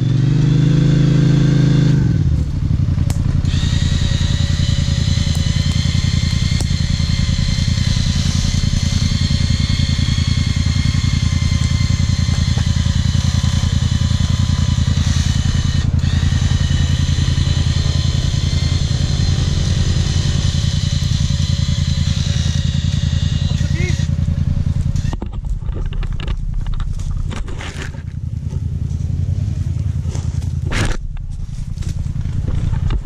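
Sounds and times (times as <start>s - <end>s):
atv engine running: 0.0s - 33.0s
high whine: 1.9s - 33.0s.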